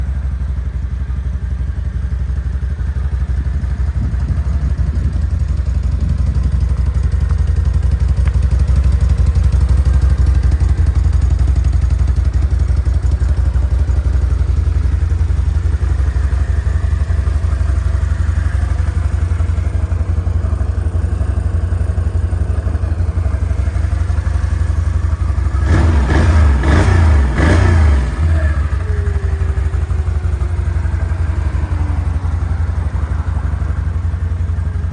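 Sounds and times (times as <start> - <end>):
engine idling and revving: 0.0 - 34.9.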